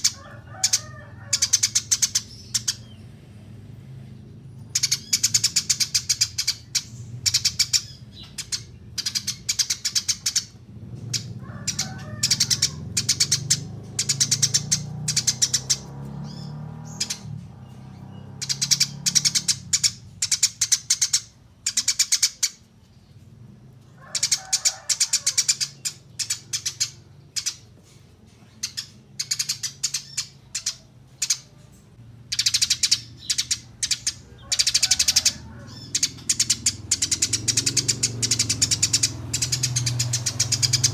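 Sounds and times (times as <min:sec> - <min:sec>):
sparrow chirping in rattling bursts: 0:00.0 - 0:40.9.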